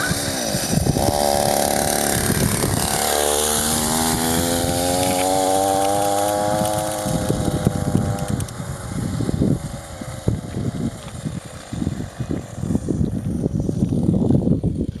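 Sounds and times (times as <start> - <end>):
two-stroke engine running rough: 0.0 - 14.2
wind noise on microphone: 0.0 - 15.0.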